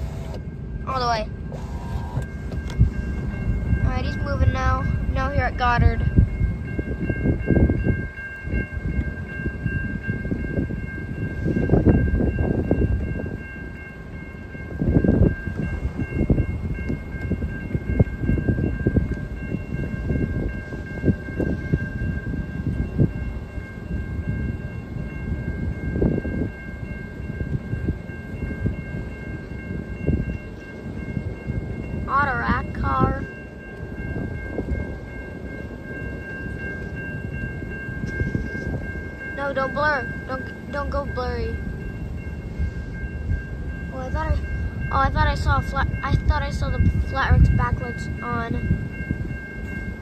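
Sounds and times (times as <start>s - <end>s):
crossing signal bell ringing: 0.0s - 50.0s.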